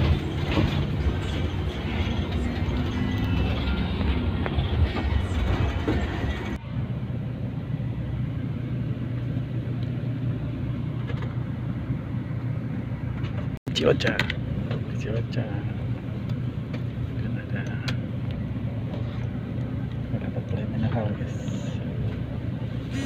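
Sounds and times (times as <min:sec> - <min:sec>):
bus engine humming: 0:00.0 - 0:23.0.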